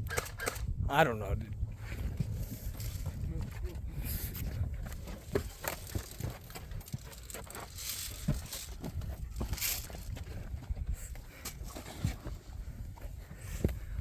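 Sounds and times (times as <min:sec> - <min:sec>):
clothing and gear rustling: 0:01.8 - 0:14.0.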